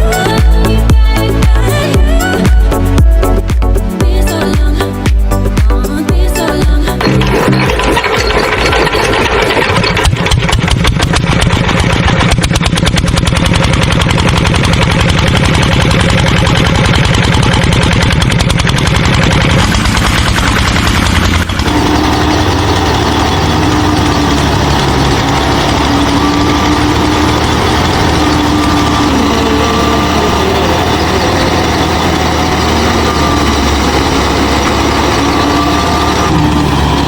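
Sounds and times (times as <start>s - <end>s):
engine running with pulsing beat: 0.0s - 37.0s
whine: 6.4s - 37.0s.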